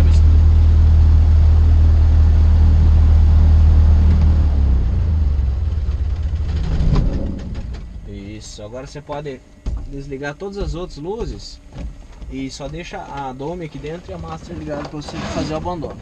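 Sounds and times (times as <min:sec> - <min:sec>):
aircraft engine idling: 0:00.0 - 0:14.9.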